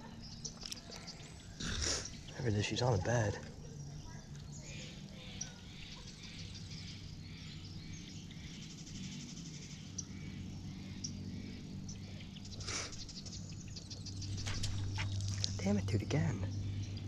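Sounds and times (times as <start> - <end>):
birds chirping: 0.0 - 17.0
insects trilling: 0.0 - 17.0
low steady hum: 0.0 - 17.0.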